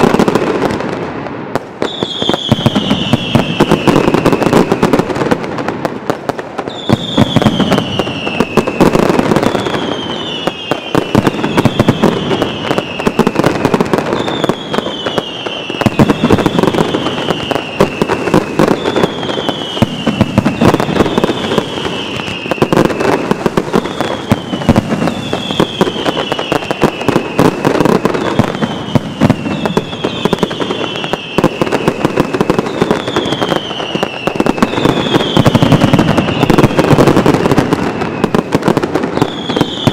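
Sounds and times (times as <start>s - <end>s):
firecracker bangs: 0.0s - 39.9s
whistling fireworks falling in pitch: 0.0s - 39.9s.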